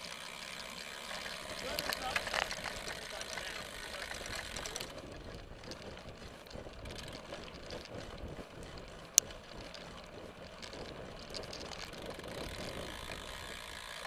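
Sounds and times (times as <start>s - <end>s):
bike rattling on dirt trail: 0.0s - 14.0s.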